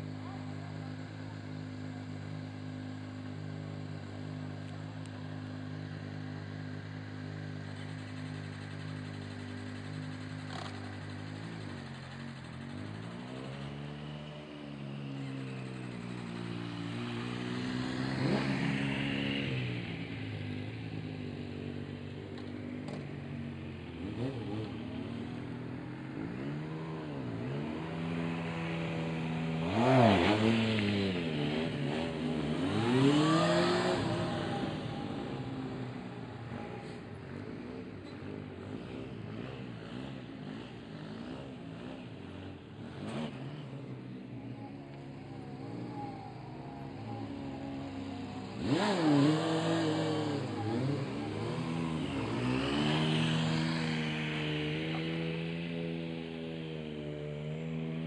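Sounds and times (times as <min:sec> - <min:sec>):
motorcycle engine revving: 0:00.0 - 0:58.0
motorcycle engines idling: 0:00.0 - 0:58.0.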